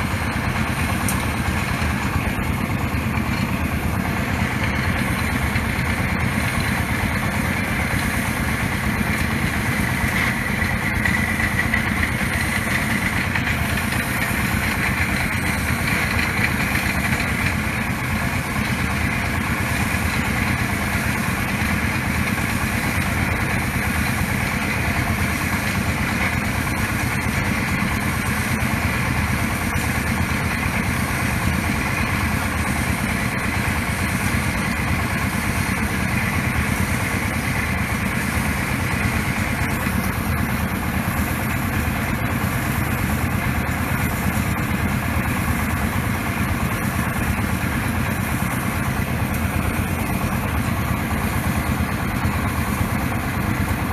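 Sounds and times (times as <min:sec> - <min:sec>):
drilling rig engine running: 0:00.0 - 0:53.9.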